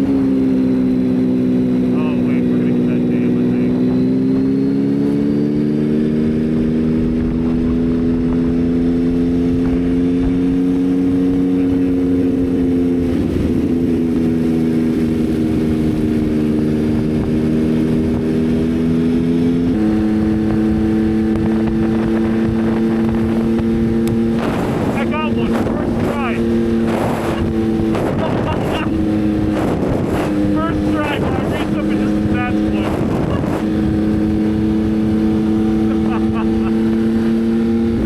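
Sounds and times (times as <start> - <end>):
motorcycle engine running: 0.0 - 38.0
wind rush: 3.9 - 38.0.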